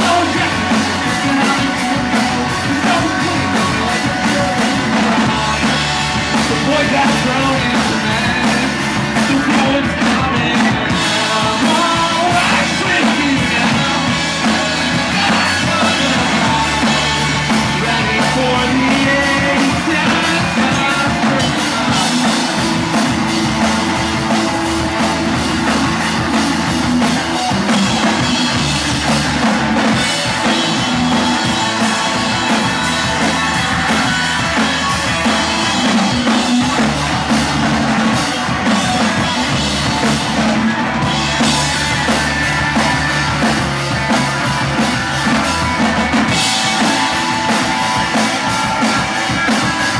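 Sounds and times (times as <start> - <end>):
person singing: 0.0 - 24.4, 29.8 - 49.9
bass guitar: 0.0 - 49.9
drum kit: 0.0 - 49.9
electric guitars: 0.0 - 49.9.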